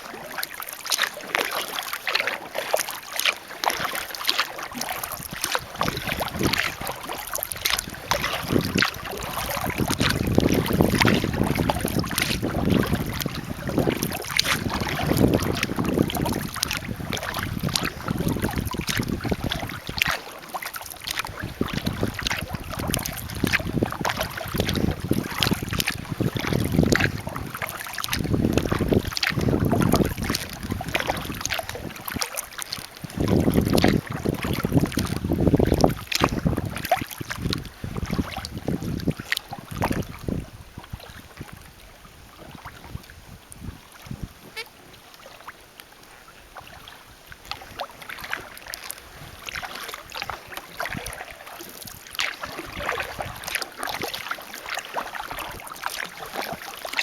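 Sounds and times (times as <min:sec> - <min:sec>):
paddle splashing in water: 0:00.0 - 0:57.0
wind rumble on microphone: 0:04.8 - 0:20.2, 0:21.0 - 0:44.9, 0:46.6 - 0:54.4, 0:55.0 - 0:57.0.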